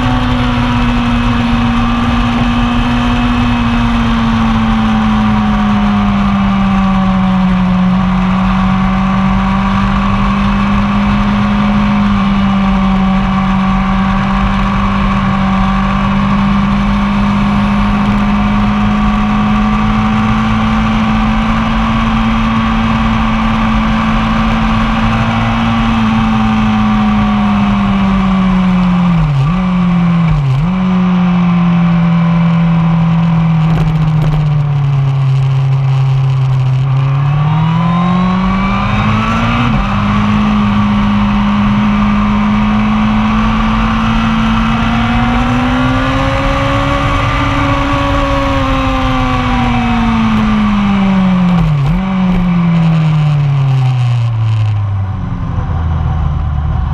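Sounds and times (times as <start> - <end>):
motorcycle engine at high revs: 0.0 - 56.9.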